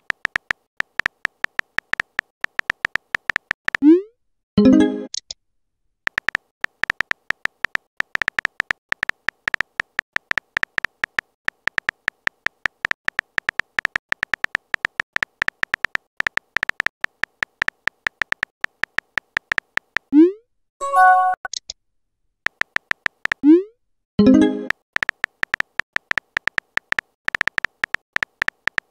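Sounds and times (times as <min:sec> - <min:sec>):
phone keyboard typing clicks: 0:00.0 - 0:03.8, 0:06.1 - 0:20.1, 0:22.5 - 0:23.4, 0:24.3 - 0:28.9.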